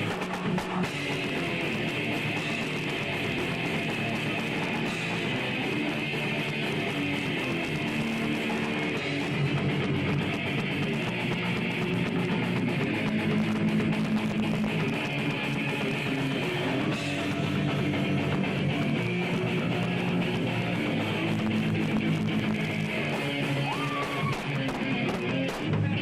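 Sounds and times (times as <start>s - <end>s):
electric guitar through amplifier: 0.0s - 26.0s.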